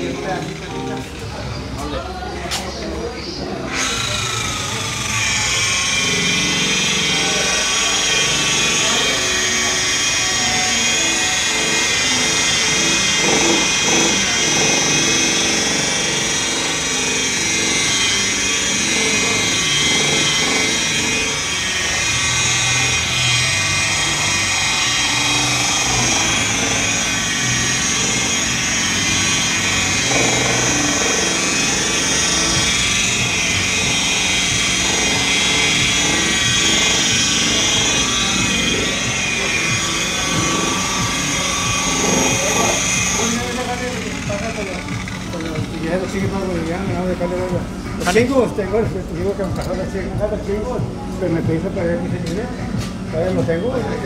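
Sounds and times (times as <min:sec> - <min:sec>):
polisher motor whine: 0:00.0 - 0:54.0.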